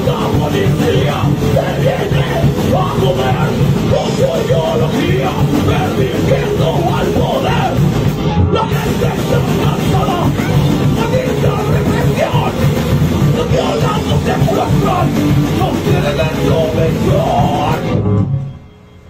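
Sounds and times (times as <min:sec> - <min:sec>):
person shouting lyrics: 0:00.0 - 0:07.8, 0:08.5 - 0:17.9
bass guitar: 0:00.0 - 0:18.7
electric guitar: 0:00.0 - 0:18.7
drums: 0:00.0 - 0:18.9.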